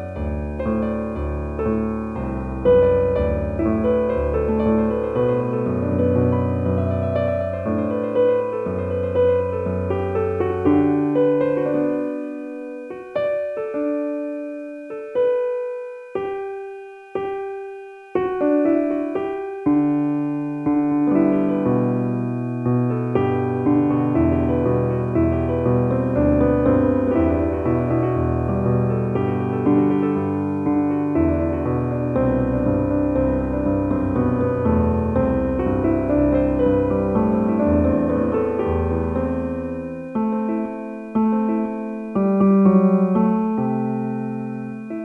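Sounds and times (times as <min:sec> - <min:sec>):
slow gentle piano music: 0:00.0 - 0:45.0.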